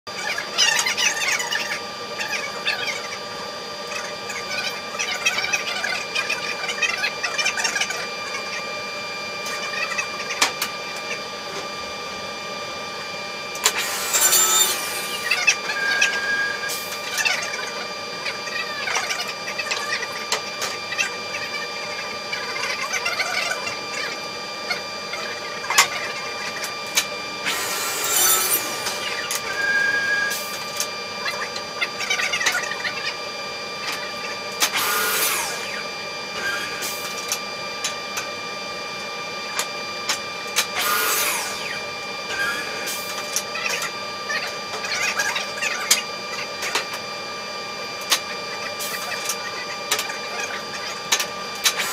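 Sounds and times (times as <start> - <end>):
woodworking machine whining: 0.1 - 51.9.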